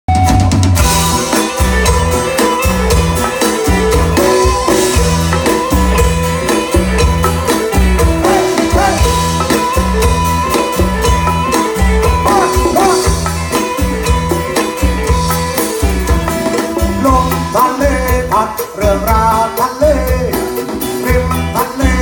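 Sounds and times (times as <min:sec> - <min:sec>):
bass guitar: 0:00.0 - 0:22.0
drum kit steady beat: 0:00.1 - 0:22.0
melody instruments: 0:00.1 - 0:22.0.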